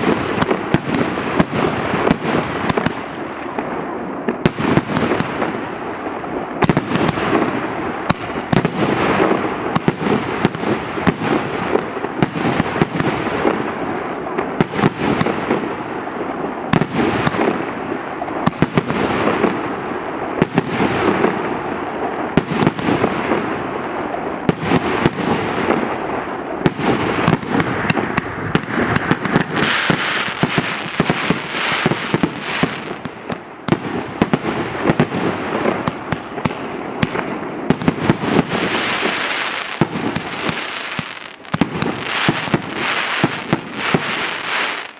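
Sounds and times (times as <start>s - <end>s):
firework reports: 0.0s - 44.9s.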